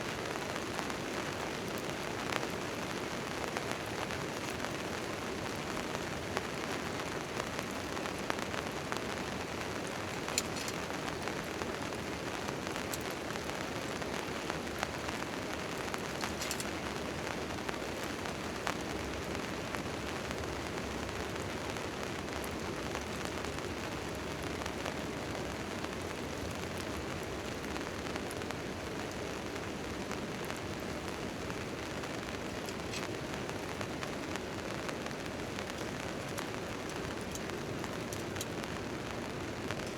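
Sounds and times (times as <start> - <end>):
rain on a tent tarp: 0.0 - 39.9.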